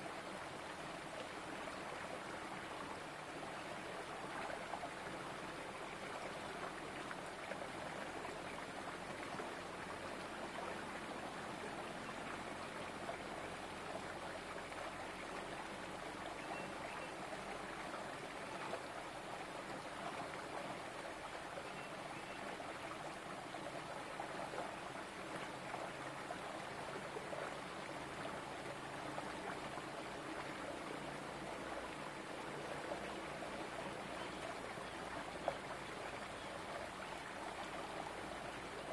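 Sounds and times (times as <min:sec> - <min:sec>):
stream pouring between boulders: 0:00.0 - 0:38.9.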